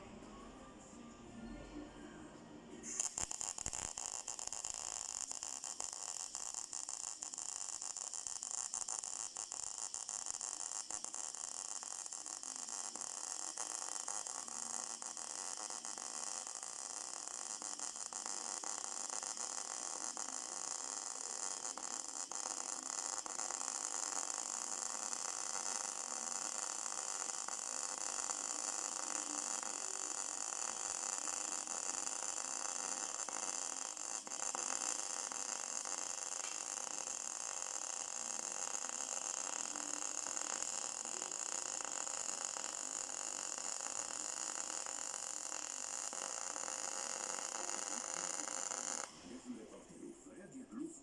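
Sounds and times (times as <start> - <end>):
welding arc hissing and crackling: 2.8 - 50.0.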